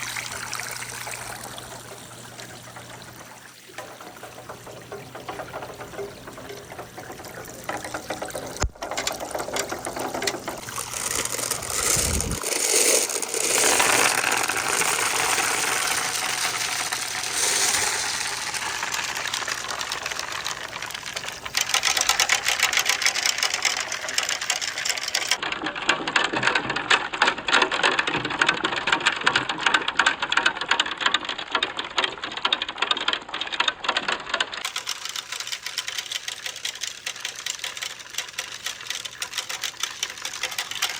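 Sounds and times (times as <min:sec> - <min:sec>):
marbles rattling on wooden track: 0:02.7 - 0:40.9.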